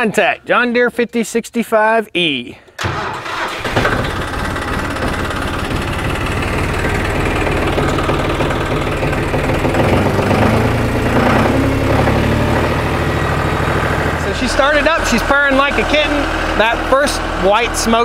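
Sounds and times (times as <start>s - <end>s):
diesel tractor engine idling: 2.8s - 18.0s.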